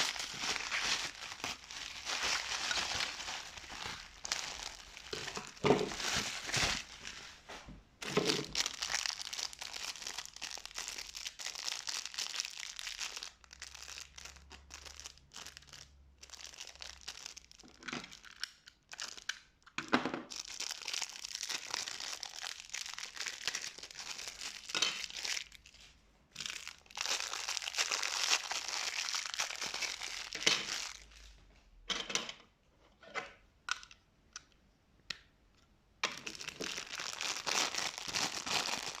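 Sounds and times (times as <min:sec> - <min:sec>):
packaging crackles: 0:00.0 - 0:07.4, 0:08.0 - 0:19.4, 0:20.3 - 0:25.8, 0:26.4 - 0:31.3, 0:36.1 - 0:39.0
packaging crinkling and rustling: 0:00.0 - 0:19.3, 0:20.2 - 0:31.3, 0:36.1 - 0:39.0.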